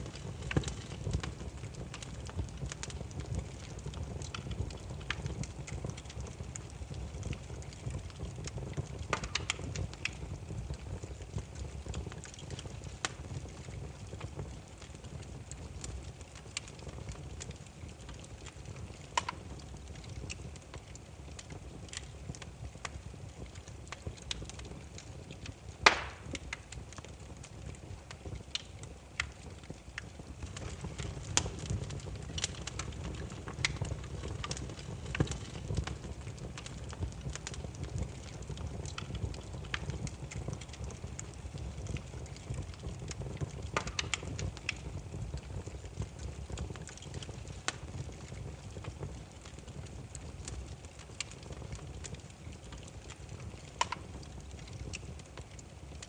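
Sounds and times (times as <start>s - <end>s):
firewood crackling: 0.0s - 56.0s
low rumble of flame: 0.0s - 56.0s.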